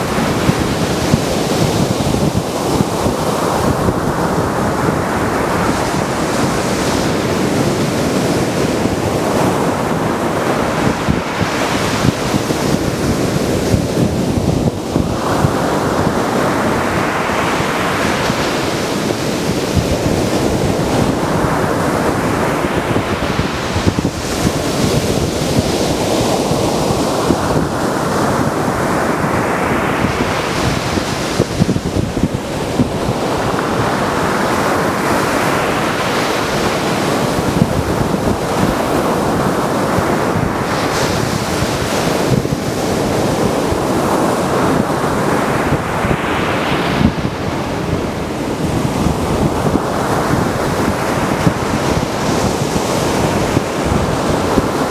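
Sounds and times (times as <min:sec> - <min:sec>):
waves breaking on a beach: 0:00.0 - 0:54.9
wind noise on microphone: 0:00.0 - 0:54.9.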